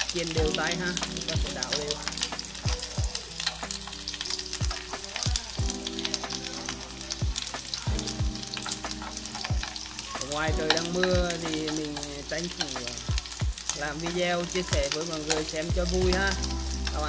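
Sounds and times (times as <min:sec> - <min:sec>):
chopsticks stirring in pan: 0:00.0 - 0:17.0
squid frying in hot oil: 0:00.0 - 0:17.0.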